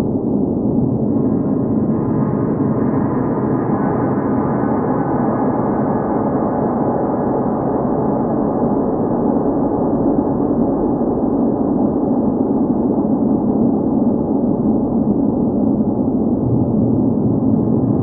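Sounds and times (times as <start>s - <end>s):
deep ambient drone: 0.0s - 18.0s.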